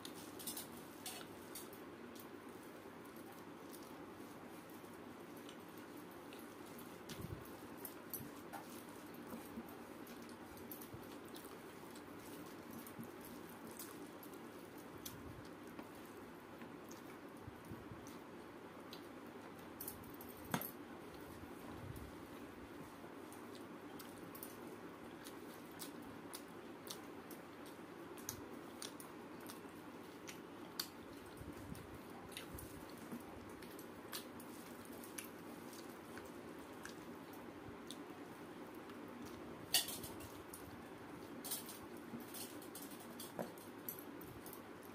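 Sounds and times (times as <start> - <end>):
chewing: 0.0 - 17.4, 21.1 - 44.9
rice squishing by hand: 0.0 - 44.9.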